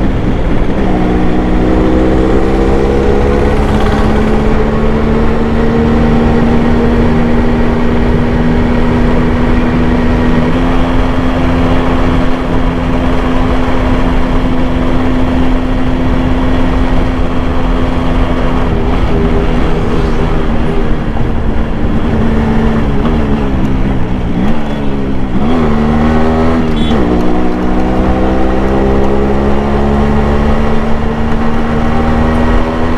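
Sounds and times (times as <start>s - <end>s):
two-stroke motorcycle engine running: 0.0s - 32.9s.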